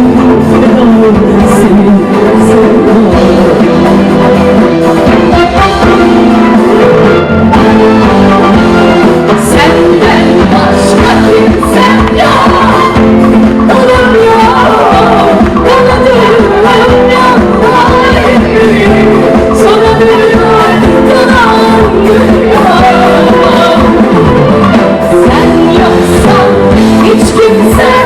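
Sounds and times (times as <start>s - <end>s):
person singing: 0.0s - 7.3s, 8.5s - 28.0s
live band playing: 0.0s - 28.0s.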